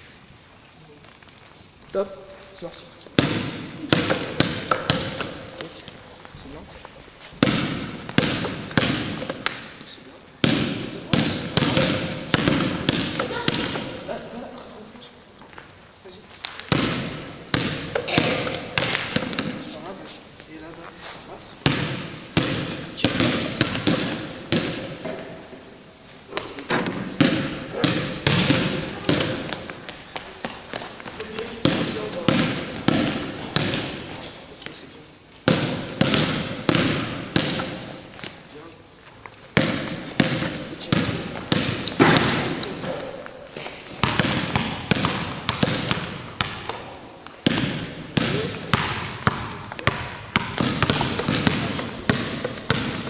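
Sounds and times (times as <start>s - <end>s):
basketballs bouncing in echoing hall: 2.0s - 6.6s, 7.2s - 20.8s, 21.4s - 38.7s, 39.4s - 53.0s.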